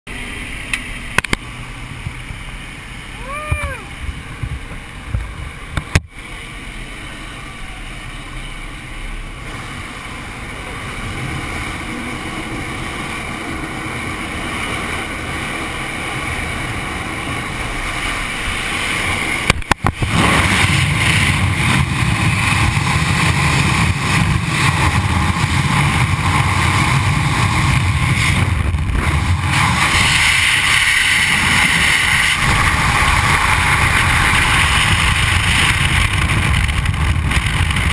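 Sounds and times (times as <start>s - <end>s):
airplane engine and slipstream rush: 0.1s - 37.9s
freefall wind on microphone: 0.1s - 37.9s.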